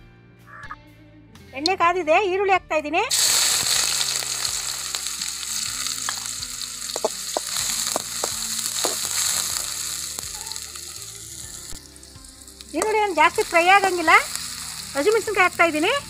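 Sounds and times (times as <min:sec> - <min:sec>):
onions sizzling in hot oil: 0:03.1 - 0:16.0.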